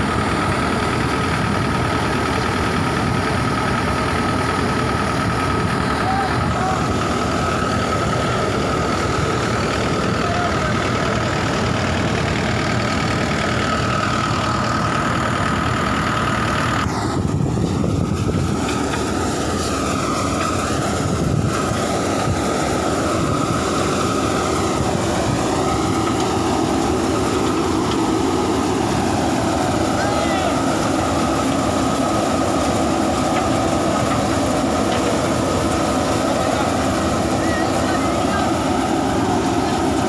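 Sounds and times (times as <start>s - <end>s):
constant high whine: 0.0s - 40.0s
diesel tractor running under load: 0.0s - 40.0s.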